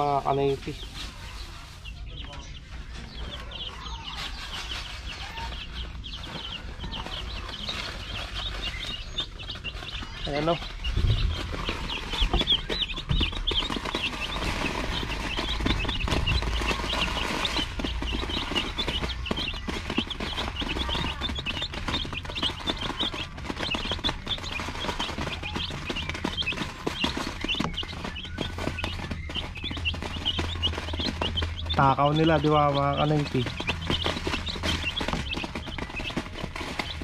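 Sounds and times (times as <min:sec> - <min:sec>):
beaks ticking on feed and plastic: 0:00.0 - 0:37.0
chicks peeping: 0:00.0 - 0:37.0.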